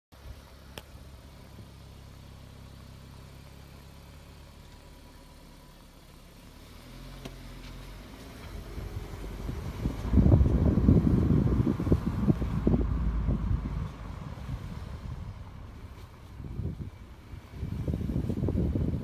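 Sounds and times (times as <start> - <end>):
road and wind noise: 0.1 - 19.0
car engine humming: 0.2 - 19.0.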